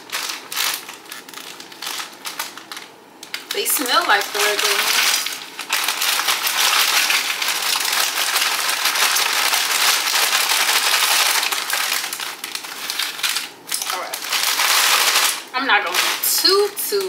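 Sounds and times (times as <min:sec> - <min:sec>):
snack bag crinkling: 0:00.0 - 0:17.0.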